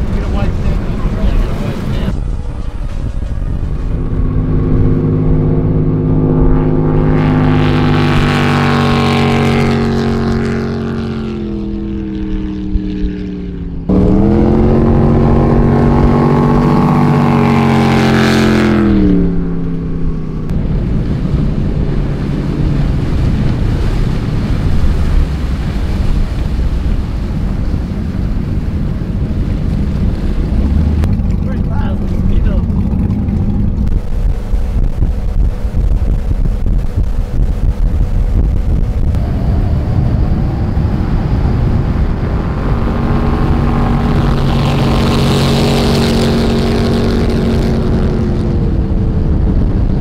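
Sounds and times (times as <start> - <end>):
boat engine revving: 0.0 - 50.0
rushing water and wind: 0.0 - 50.0.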